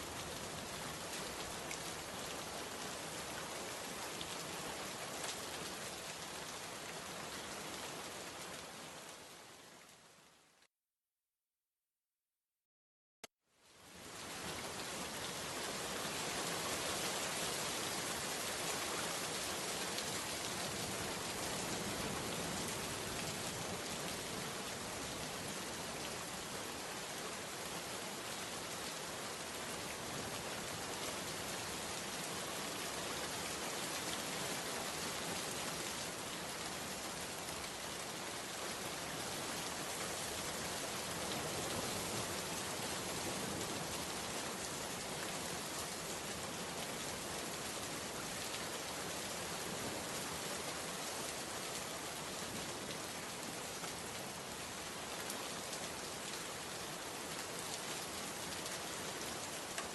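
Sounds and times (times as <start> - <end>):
steady rain falling: 0.0 - 10.7, 13.5 - 59.9.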